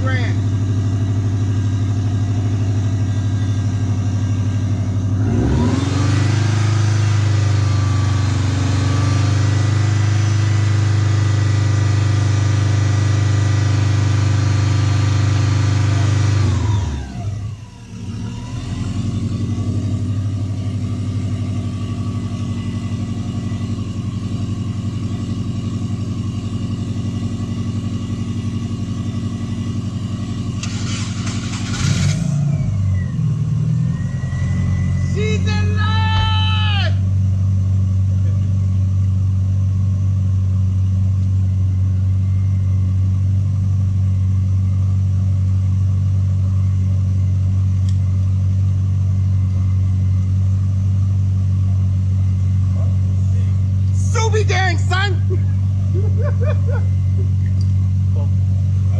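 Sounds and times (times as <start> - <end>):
car engine revving and idling: 0.0 - 58.9.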